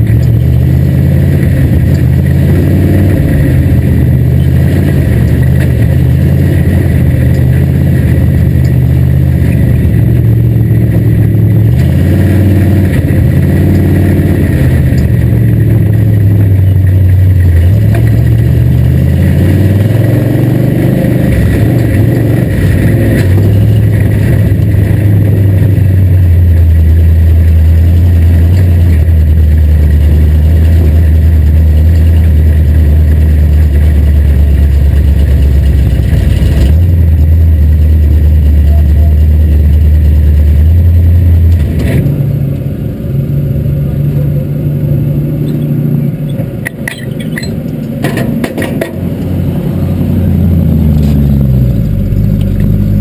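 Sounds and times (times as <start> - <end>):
race car engine running: 0.0 - 53.0.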